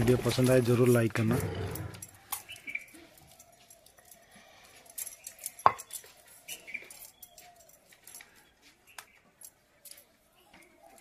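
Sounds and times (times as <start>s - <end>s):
glass bangles clinking: 1.7s - 11.0s.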